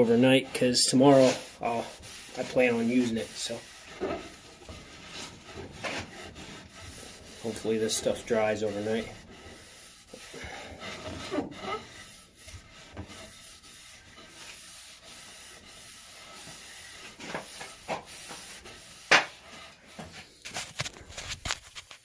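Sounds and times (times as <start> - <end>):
rubbing on wooden handle: 0.0 - 21.6.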